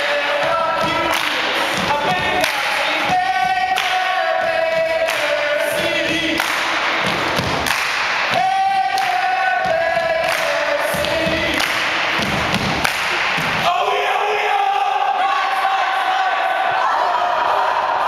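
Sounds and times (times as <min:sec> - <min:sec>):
group of voices singing: 0:00.0 - 0:07.4, 0:08.2 - 0:12.6, 0:13.5 - 0:18.0.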